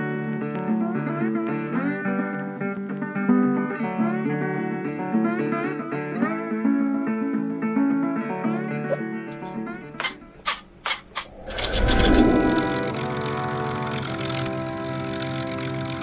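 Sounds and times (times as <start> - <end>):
guitar melody with slides: 0.0 - 16.0.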